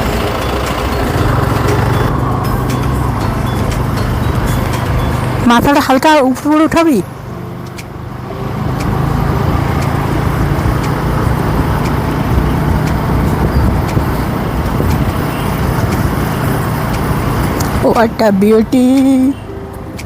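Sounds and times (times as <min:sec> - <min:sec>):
motorcycle engine running: 0:00.0 - 0:19.3
wind and road noise: 0:00.0 - 0:20.0.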